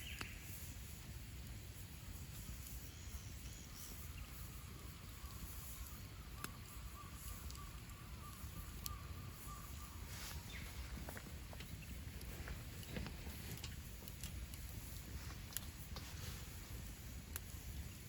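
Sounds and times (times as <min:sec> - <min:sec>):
campfire crackling: 0:00.0 - 0:18.0
fire sharp pops: 0:00.0 - 0:18.0.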